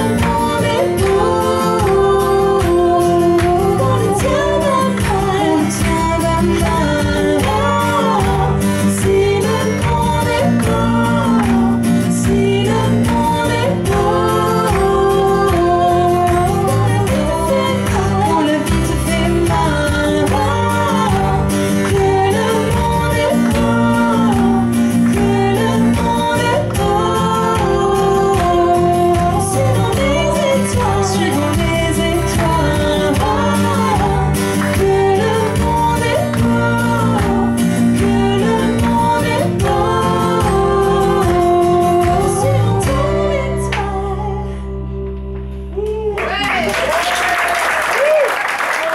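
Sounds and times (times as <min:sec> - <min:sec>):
women singing together: 0:00.0 - 0:44.4
electric bass: 0:00.0 - 0:46.9
acoustic guitar: 0:00.0 - 0:48.9.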